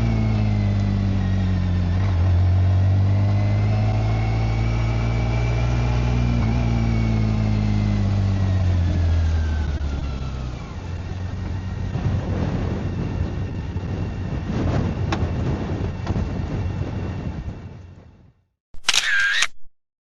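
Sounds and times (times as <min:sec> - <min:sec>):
motorcycle engine running: 0:00.0 - 0:17.9
wind and road noise: 0:00.0 - 0:19.6.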